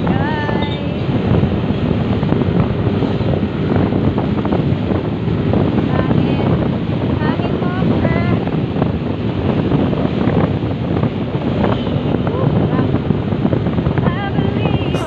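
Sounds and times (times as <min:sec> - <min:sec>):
motorcycle rumble: 0:00.0 - 0:15.0
wind rushing over microphone: 0:00.0 - 0:15.0.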